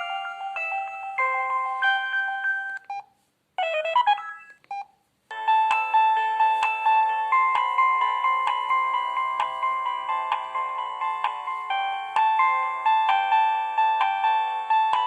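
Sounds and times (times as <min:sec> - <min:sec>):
mobile phone ringtone melody: 0:00.0 - 0:02.9, 0:05.3 - 0:15.0.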